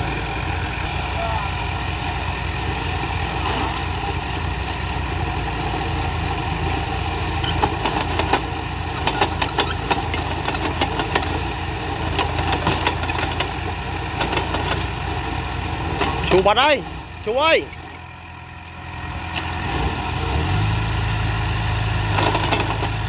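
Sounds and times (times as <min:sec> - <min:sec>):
heavy diesel engine idling: 0:00.0 - 0:23.0.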